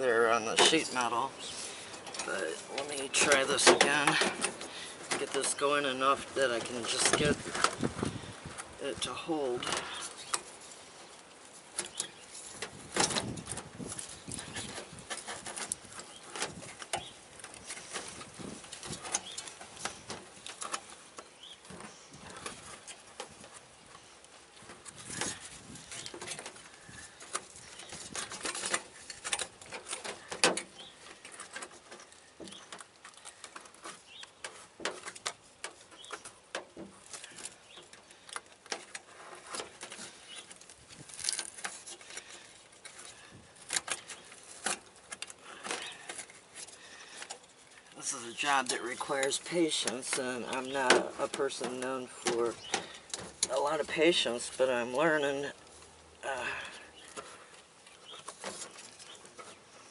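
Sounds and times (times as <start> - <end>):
thin sheet metal scraping and crinkling: 0.0 - 59.9.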